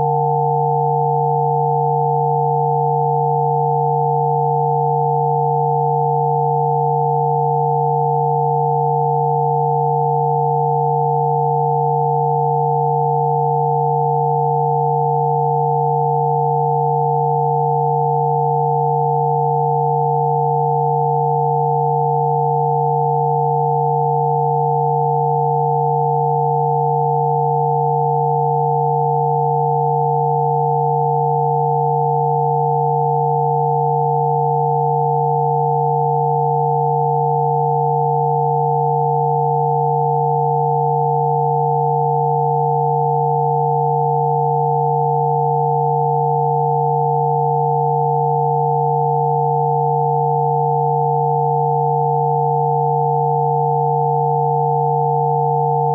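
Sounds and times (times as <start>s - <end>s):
steady electronic sine tones: 0.0s - 55.9s.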